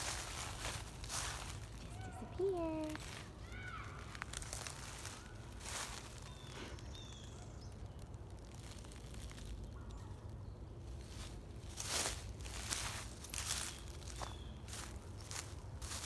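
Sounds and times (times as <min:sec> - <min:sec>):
footsteps in leaf litter: 0:00.0 - 0:16.0.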